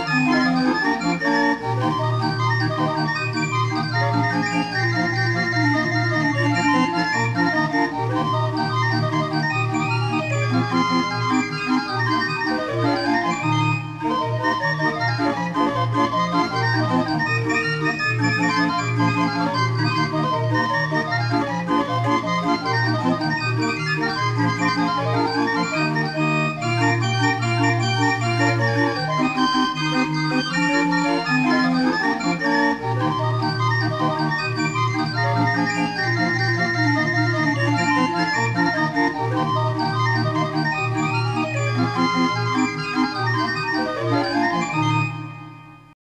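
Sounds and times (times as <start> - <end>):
barrel organ playing: 0.0 - 46.0.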